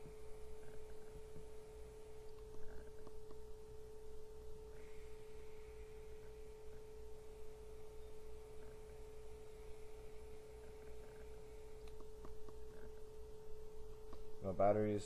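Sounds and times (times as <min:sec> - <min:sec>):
steady electrical whine: 0:00.0 - 0:15.0.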